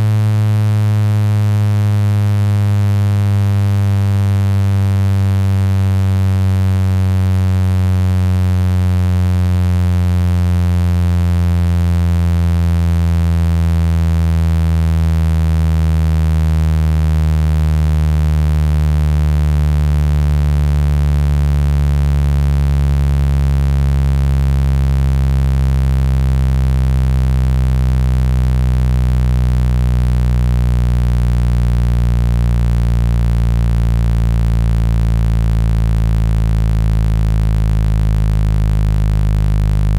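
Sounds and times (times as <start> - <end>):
low buzzing synthetic tone: 0.0 - 39.9.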